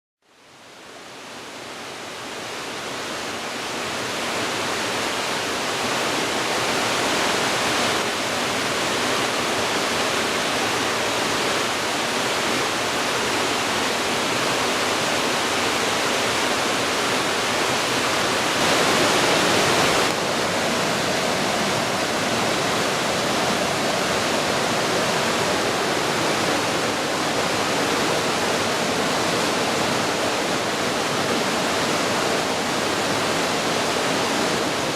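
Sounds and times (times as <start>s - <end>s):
rushing falling water: 0.3s - 34.9s.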